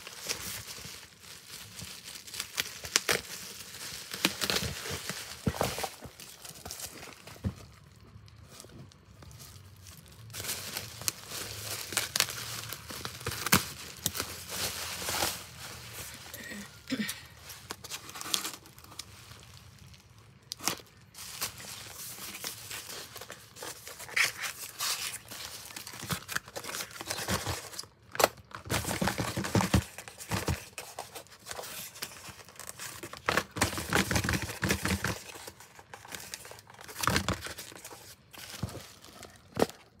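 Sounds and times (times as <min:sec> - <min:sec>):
plastic packaging crinkling: 0:00.0 - 0:40.0.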